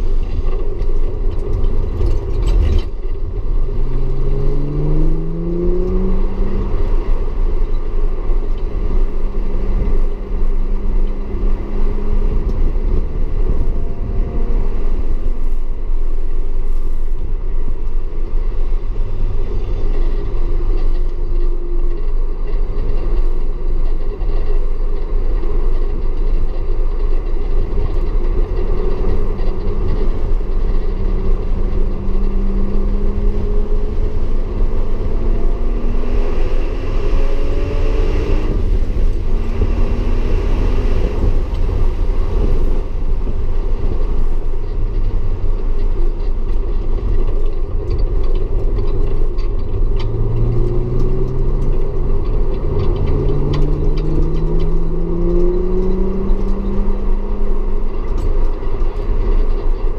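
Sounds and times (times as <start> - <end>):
car engine accelerating: 0.0 - 59.9
tyre and road noise: 0.0 - 59.9.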